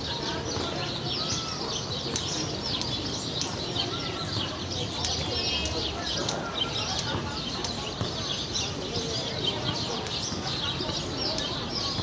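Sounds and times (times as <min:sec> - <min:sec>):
low background murmur: 0:00.0 - 0:12.0
small birds chirping: 0:00.0 - 0:12.0.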